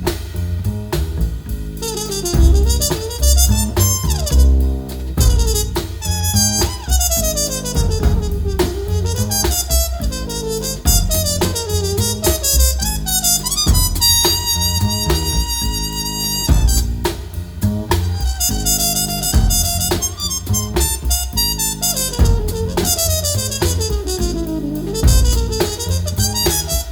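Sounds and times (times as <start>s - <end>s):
jazzy instrumental music: 0.0s - 26.9s.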